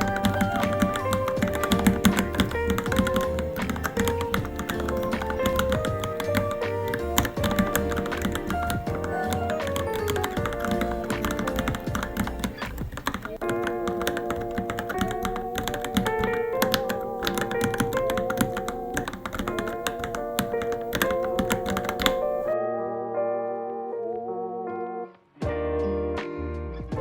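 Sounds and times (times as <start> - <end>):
keyboard typing clicks: 0.0 - 22.6
background music: 0.0 - 27.0.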